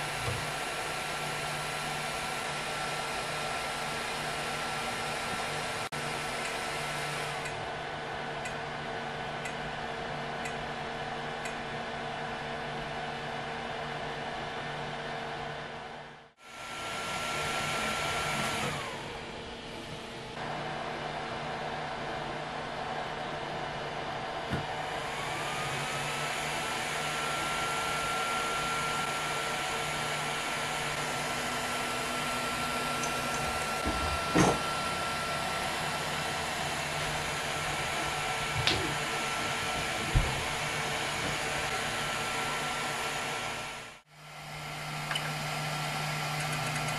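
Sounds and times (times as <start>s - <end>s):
cooling fans whirring: 0.0s - 46.9s.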